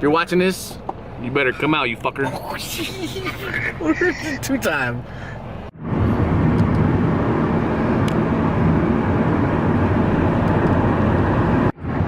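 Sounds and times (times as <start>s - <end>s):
car engine hum: 0.0s - 12.0s
road and wind noise: 0.0s - 12.0s.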